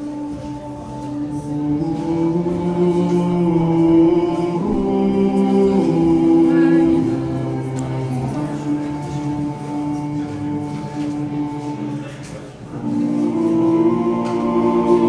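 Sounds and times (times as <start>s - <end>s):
several voices singing held notes: 0.0s - 15.0s.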